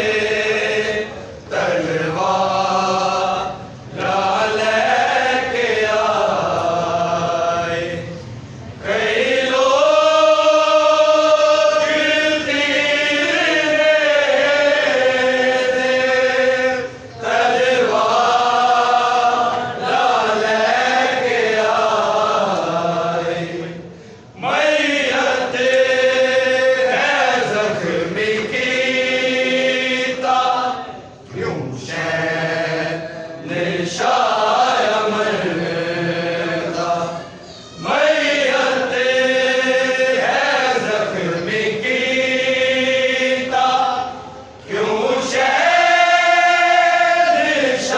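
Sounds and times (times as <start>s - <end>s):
men chanting a lament: 0.0s - 8.2s, 8.8s - 47.9s.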